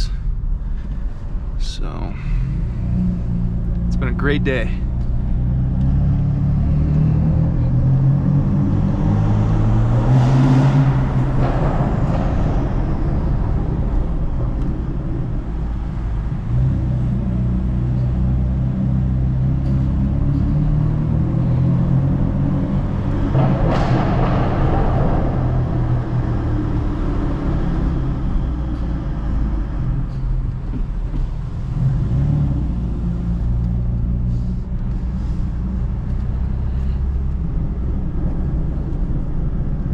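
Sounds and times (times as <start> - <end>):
car engine drone: 0.0 - 39.9
road rumble: 0.0 - 39.9.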